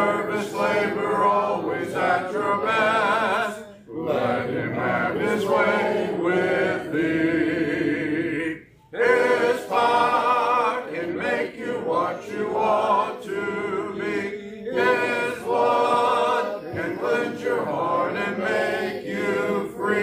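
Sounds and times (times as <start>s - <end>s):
congregation singing a hymn: 0.0s - 20.0s.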